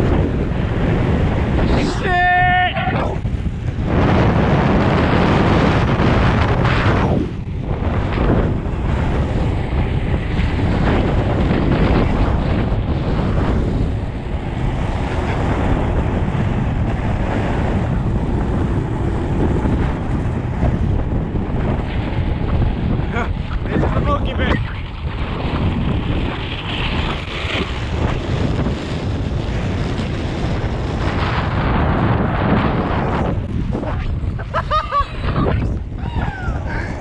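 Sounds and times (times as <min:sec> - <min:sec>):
skate wheels rolling on asphalt: 0:00.0 - 0:37.0
wind buffeting microphone: 0:00.0 - 0:37.0.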